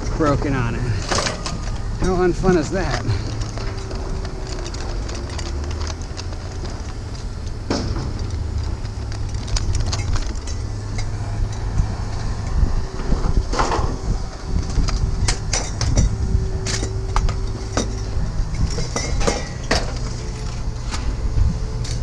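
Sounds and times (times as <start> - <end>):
clanks and knocks: 0.0 - 11.8, 12.4 - 21.2
vehicle engine rumbling: 0.0 - 22.0.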